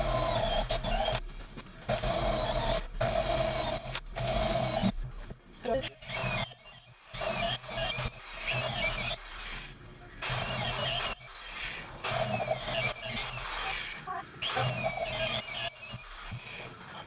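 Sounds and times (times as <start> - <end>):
electric drill drilling steel: 0.0 - 1.2, 1.9 - 5.0, 5.9 - 16.8.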